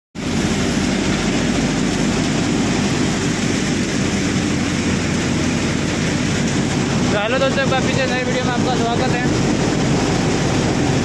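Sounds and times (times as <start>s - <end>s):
grain thresher drone: 0.2s - 11.0s.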